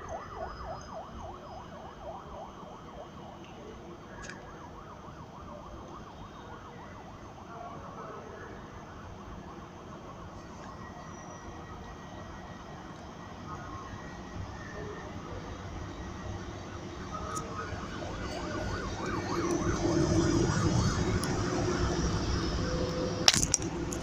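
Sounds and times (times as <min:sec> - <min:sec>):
siren yelping: 0:00.0 - 0:12.8, 0:13.5 - 0:24.0.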